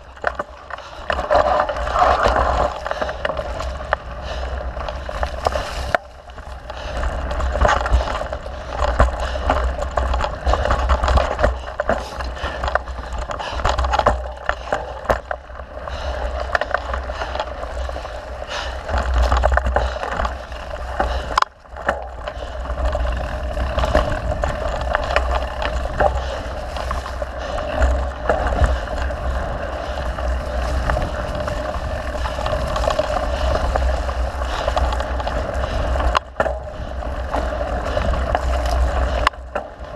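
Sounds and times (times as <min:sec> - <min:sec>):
bike rattles and clicks: 0:00.0 - 0:39.9
bike tyre noise on dirt: 0:00.0 - 0:39.9
wind rumbling on microphone: 0:00.0 - 0:39.9.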